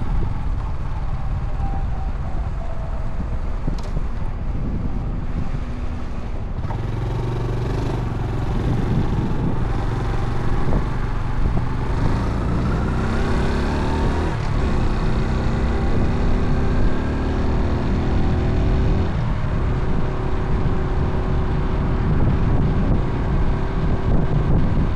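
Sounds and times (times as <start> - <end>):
motorcycle engine accelerating: 0.0 - 24.9
road and wind rumble: 0.0 - 24.9.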